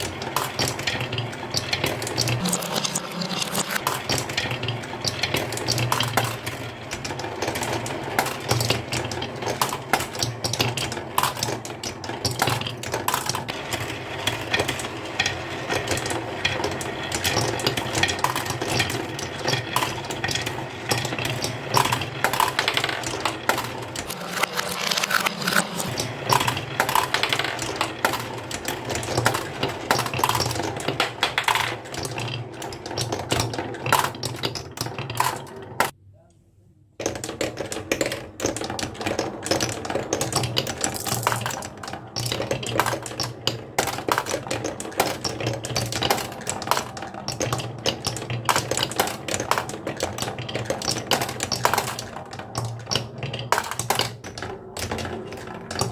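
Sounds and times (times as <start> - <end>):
marbles clattering down wooden run: 0.0 - 36.0, 37.0 - 55.9.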